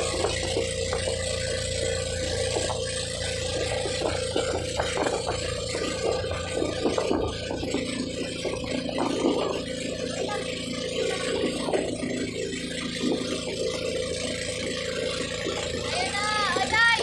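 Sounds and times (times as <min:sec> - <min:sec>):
boat engine drone: 0:00.0 - 0:17.0
water rushing past hull: 0:00.0 - 0:17.0.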